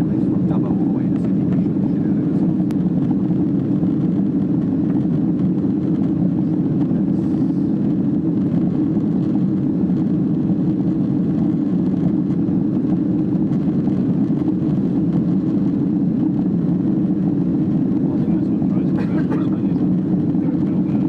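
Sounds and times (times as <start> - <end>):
jet engines and airflow roar: 0.0 - 21.0.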